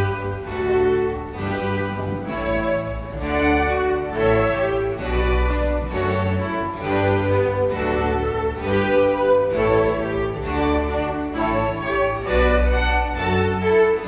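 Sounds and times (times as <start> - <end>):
string ensemble playing classical music: 0.0 - 14.0.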